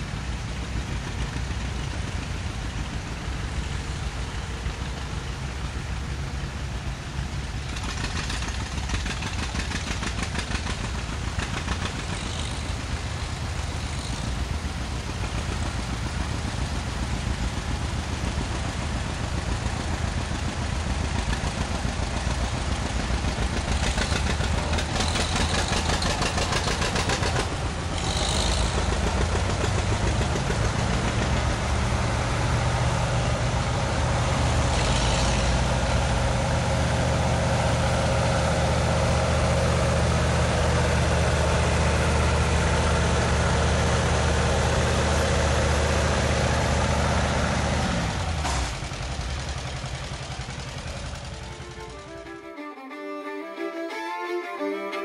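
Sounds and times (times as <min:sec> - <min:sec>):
deep loud engine: 0:00.0 - 0:55.0
tractors passing: 0:00.0 - 0:55.0.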